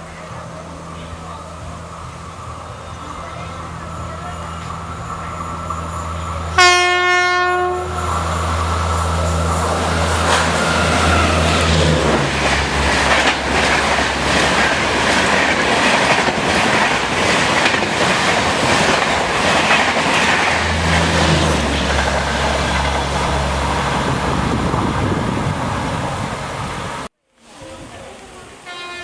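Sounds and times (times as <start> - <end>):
train rushing past: 0.0 - 29.0.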